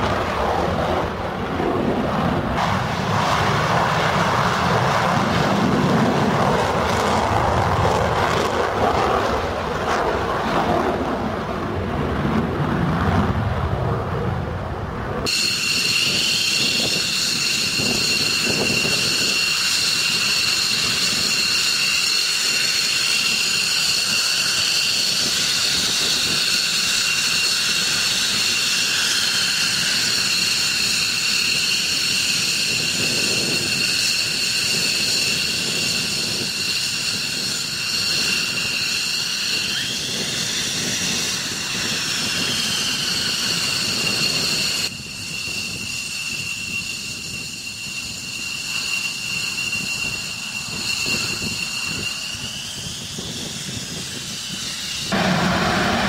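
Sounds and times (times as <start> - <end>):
jet engines whining and rumbling: 0.0 - 56.0.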